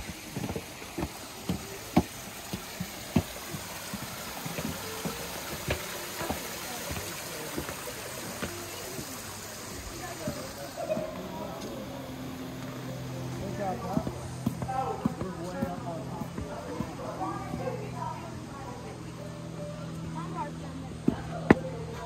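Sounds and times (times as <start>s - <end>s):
footsteps on hard path: 0.0s - 18.2s.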